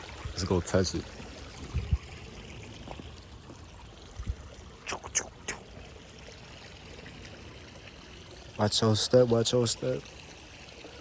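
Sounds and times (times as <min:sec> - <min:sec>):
stream water trickling: 0:00.0 - 0:11.0.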